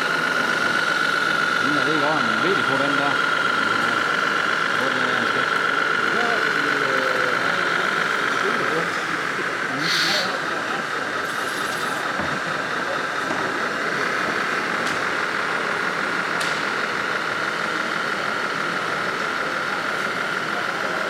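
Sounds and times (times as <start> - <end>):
constant high whine: 0.0 - 21.0
model truck running sound: 0.0 - 21.0.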